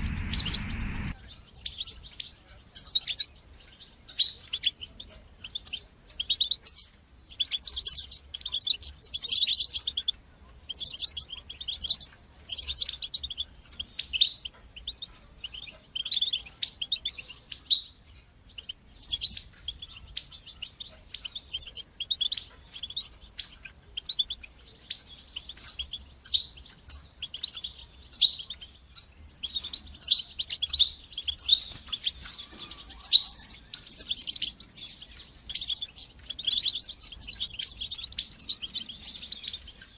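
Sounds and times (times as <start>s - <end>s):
goldfinch twittering chirps: 0.0s - 39.9s.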